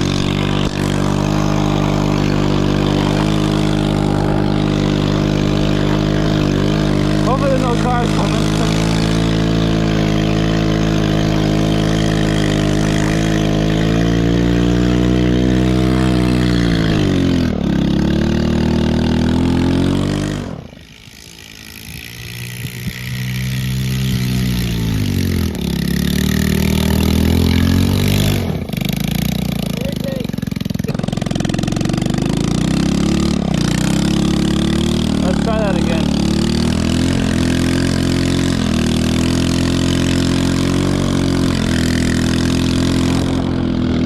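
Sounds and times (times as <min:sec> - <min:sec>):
atv engine revving: 0:00.0 - 0:44.0.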